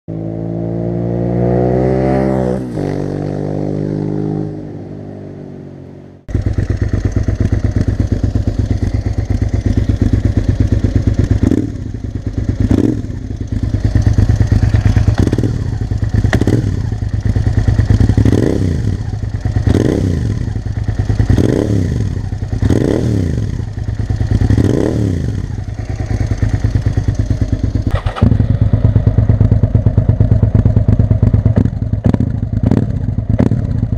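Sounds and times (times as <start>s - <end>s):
motorcycle engine revving: 0.1s - 33.9s
motorcycle idling: 6.3s - 33.9s.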